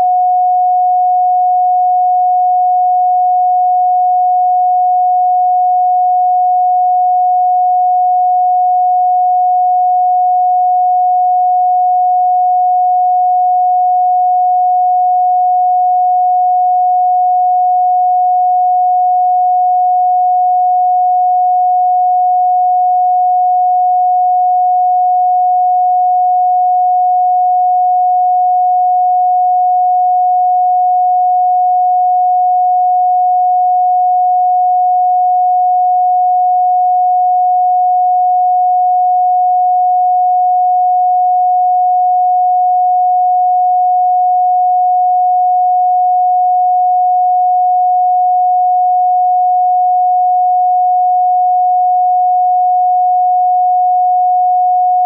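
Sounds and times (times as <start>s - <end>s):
pure sine tone: 0.0s - 55.0s.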